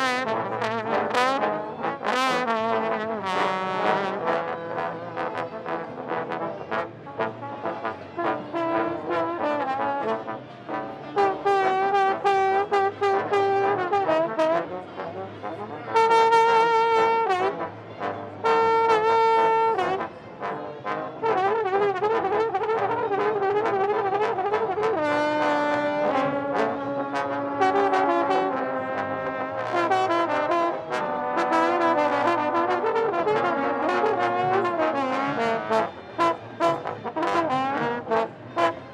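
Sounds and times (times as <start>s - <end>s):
solo trombone melody: 0.0s - 38.9s.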